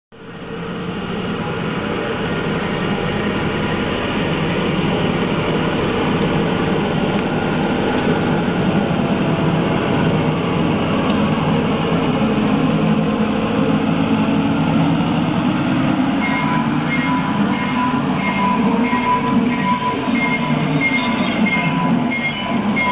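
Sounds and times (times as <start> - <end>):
miniature diesel locomotive running: 0.1 - 22.9
train wheels on track: 0.2 - 22.9.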